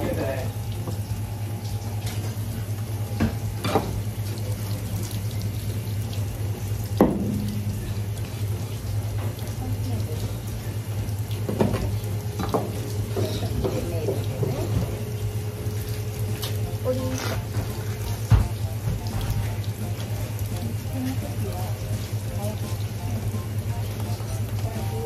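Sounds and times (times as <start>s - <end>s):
steady low hum: 0.0s - 25.0s
tap water running into sink: 0.0s - 25.0s.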